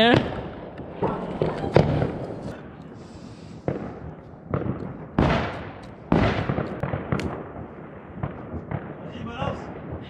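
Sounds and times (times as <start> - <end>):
fireworks exploding: 0.0 - 10.0
small firework cracks: 0.0 - 10.0.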